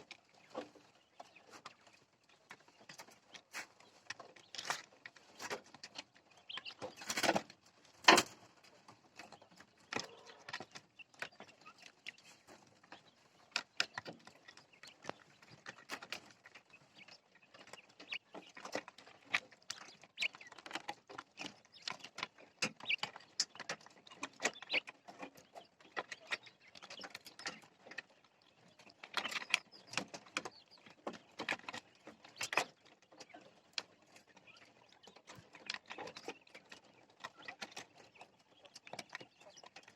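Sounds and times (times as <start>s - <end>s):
quail pecking and scratching: 0.0s - 39.9s.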